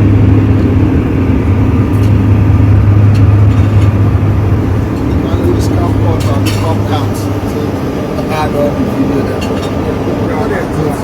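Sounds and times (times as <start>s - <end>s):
jet cabin drone: 0.0s - 11.0s.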